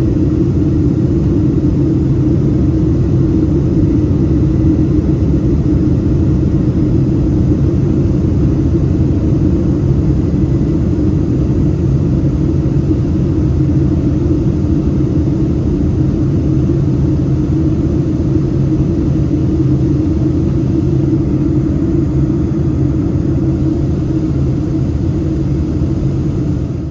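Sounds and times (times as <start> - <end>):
jet engines rumbling: 0.0 - 26.9.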